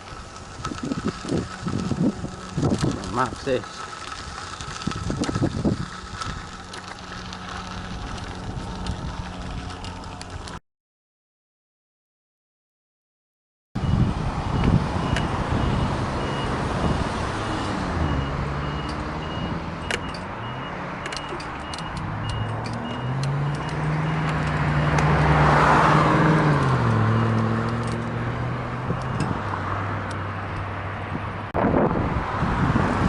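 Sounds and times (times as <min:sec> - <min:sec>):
road traffic passing: 0:00.0 - 0:10.6, 0:13.8 - 0:33.0.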